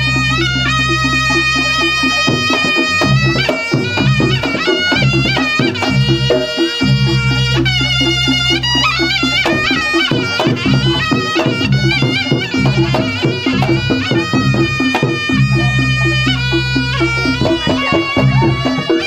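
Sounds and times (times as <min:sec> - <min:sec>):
drums and gongs beat: 0:00.0 - 0:19.0
shawm playing nasal melody: 0:00.0 - 0:19.0.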